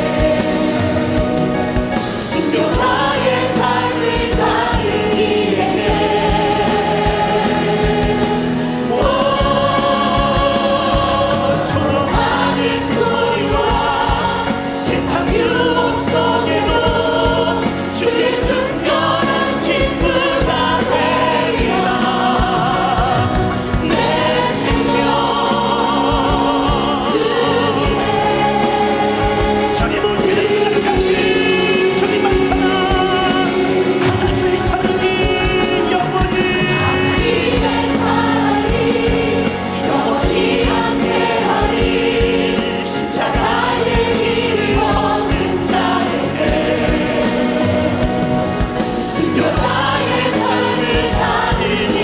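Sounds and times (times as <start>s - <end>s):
choir and congregation singing a hymn: 0.0s - 52.0s
instrumental accompaniment: 0.0s - 52.0s.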